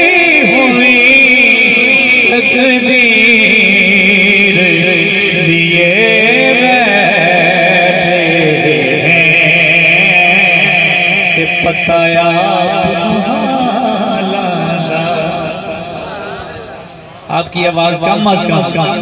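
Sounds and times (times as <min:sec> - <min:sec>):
man singing into a microphone: 0:00.0 - 0:15.6.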